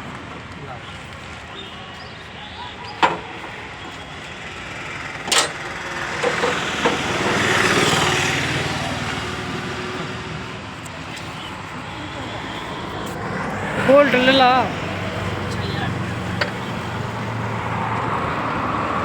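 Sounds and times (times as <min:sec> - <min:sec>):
road vehicle passing: 0:00.0 - 0:19.0.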